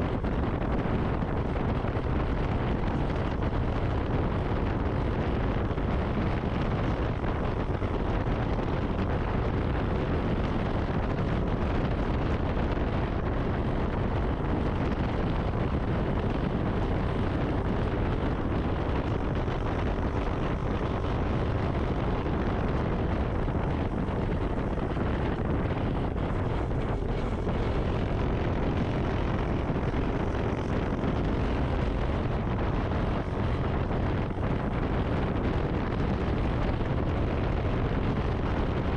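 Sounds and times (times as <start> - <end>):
motorcycle engine and road noise: 0.0 - 38.9
wind rushing over microphone: 0.0 - 38.9.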